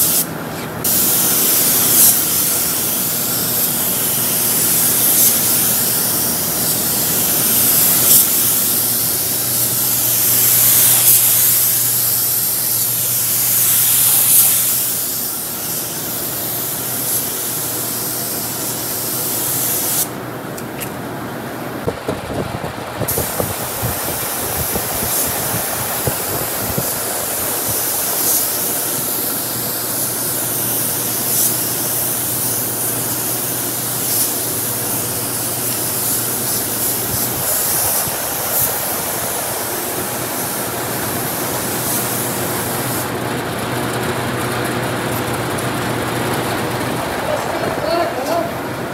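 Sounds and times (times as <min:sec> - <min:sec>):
spray gun hissing: 0:00.0 - 0:20.2, 0:23.1 - 0:43.2.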